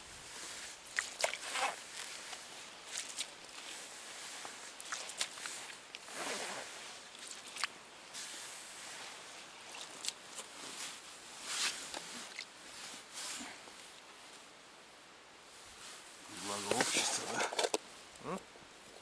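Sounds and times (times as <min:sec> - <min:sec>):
rustling and crunching on snow: 0:00.0 - 0:14.5, 0:15.5 - 0:17.5.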